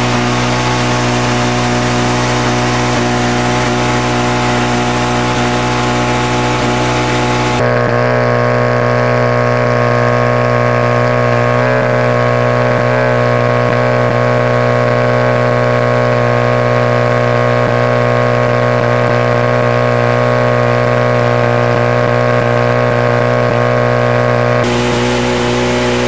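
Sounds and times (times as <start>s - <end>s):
pump engine droning: 0.0s - 19.2s, 23.6s - 26.0s.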